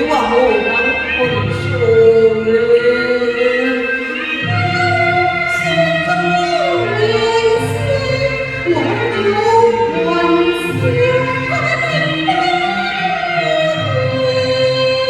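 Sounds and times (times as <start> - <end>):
instrumental accompaniment: 0.0 - 15.0
opera singing: 0.0 - 15.0.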